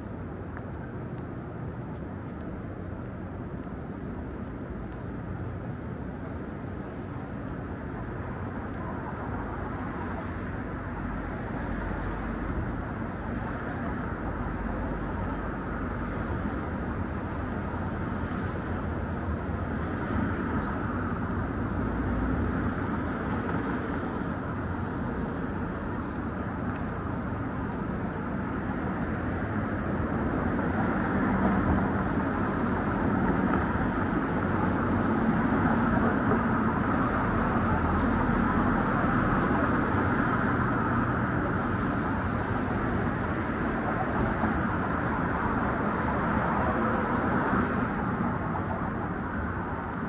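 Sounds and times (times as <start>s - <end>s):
passing cars: 0.0s - 50.0s.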